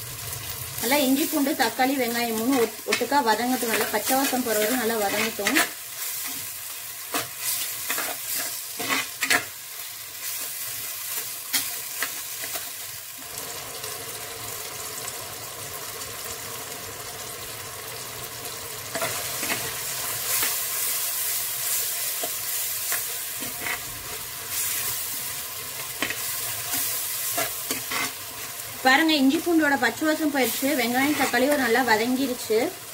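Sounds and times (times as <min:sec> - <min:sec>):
food sizzling in hot oil: 0:00.0 - 0:32.9.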